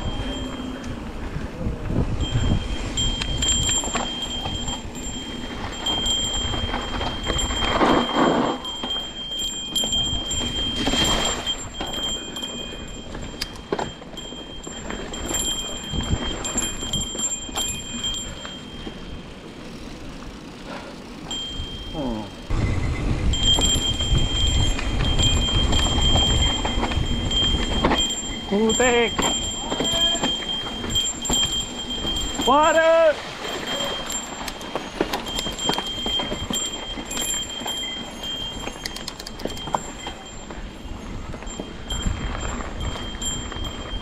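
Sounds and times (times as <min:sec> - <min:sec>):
wind rumbling on microphone: 0:00.0 - 0:19.0, 0:21.5 - 0:32.5, 0:33.1 - 0:44.0
bicycle bell ringing: 0:00.0 - 0:44.0.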